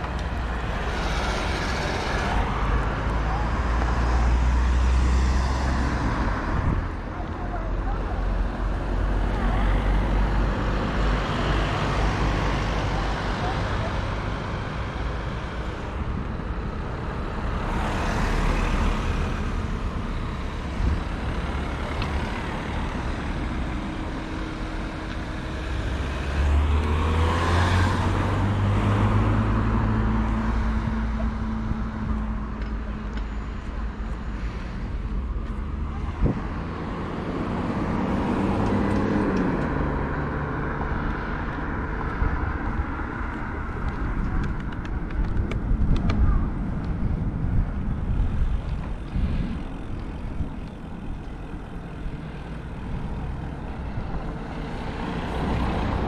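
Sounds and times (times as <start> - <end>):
road noise: 0.0 - 56.0
vehicle engines humming: 0.0 - 56.0
vehicles passing: 0.0 - 56.0.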